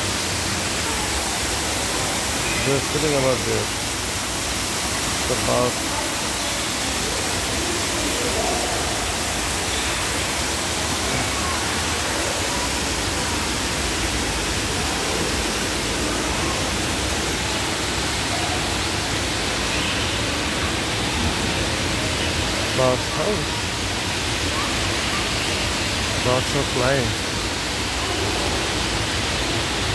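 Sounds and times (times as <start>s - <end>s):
waterfall splashing into pool: 0.0s - 29.9s.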